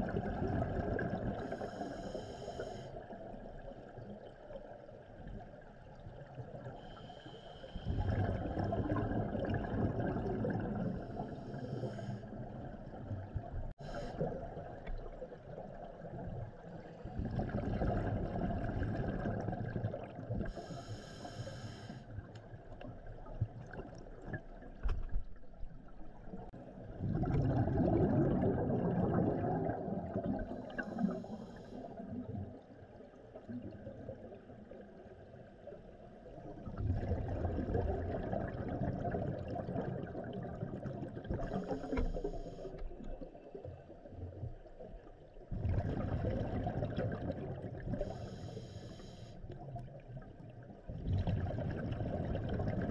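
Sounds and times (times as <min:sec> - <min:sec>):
gurgling bubbles exhaled underwater: 0:00.0 - 0:21.0, 0:22.0 - 0:52.9.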